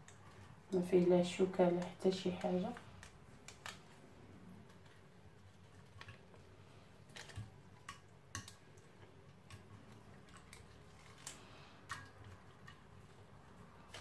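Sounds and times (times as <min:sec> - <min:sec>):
hands handling fish in marinade: 0:00.0 - 0:14.0.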